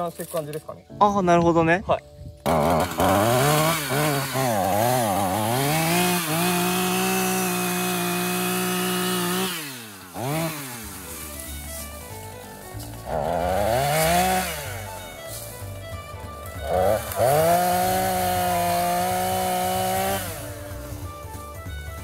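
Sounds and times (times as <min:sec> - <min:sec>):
chainsaw revving: 0:02.4 - 0:21.6.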